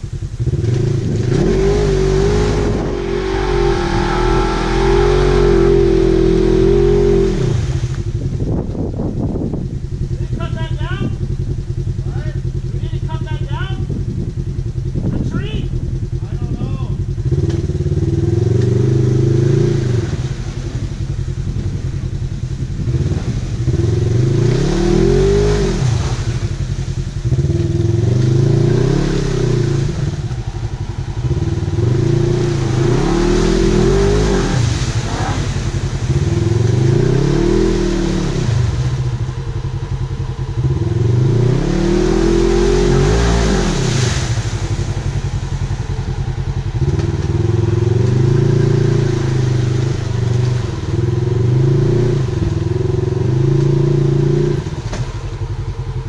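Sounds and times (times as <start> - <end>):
engine revving under load: 0.0 - 22.2, 22.8 - 56.0.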